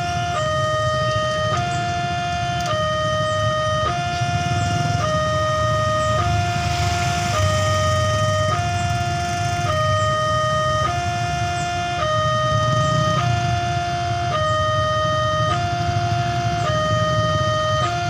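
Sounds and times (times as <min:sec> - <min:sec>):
level crossing two-tone alarm: 0:00.0 - 0:18.0
motorcycle engines idling: 0:00.0 - 0:18.0.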